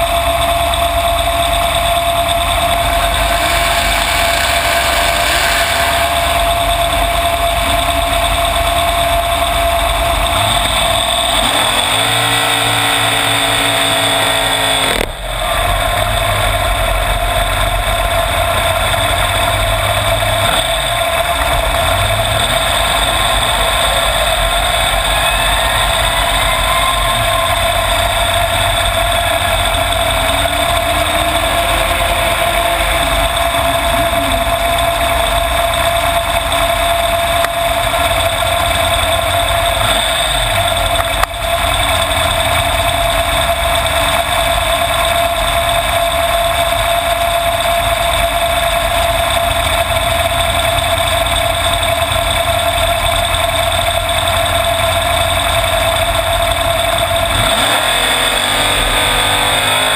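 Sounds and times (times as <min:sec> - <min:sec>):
dragster engine idling: 0:00.0 - 0:59.9.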